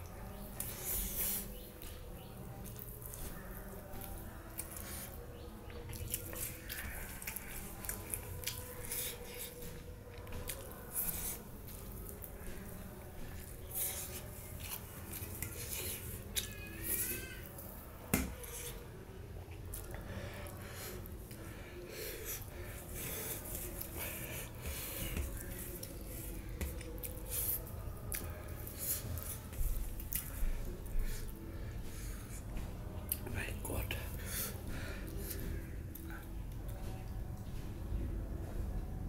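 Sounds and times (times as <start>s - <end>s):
close-up chewing: 0.0s - 37.8s.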